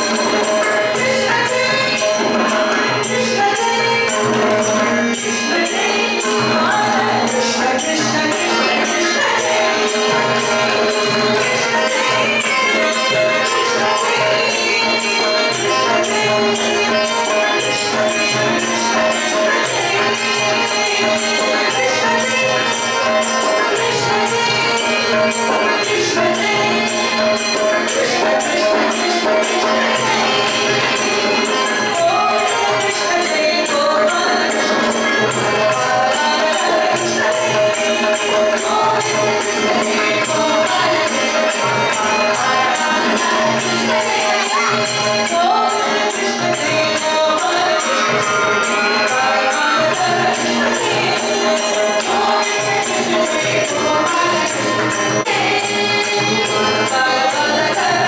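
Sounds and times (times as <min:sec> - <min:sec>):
percussion beat: 0:00.0 - 0:58.0
women singing devotional song: 0:00.0 - 0:58.0.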